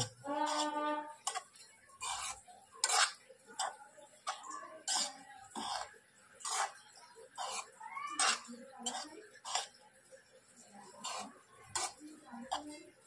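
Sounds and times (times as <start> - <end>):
metal spoon scraping a pan: 0.0 - 13.0.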